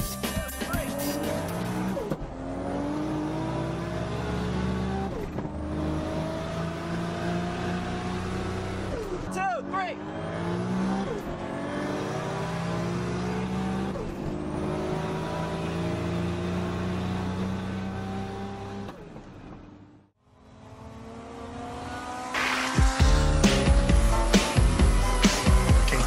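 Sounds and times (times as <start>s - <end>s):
car engine at full throttle: 0.7s - 26.0s.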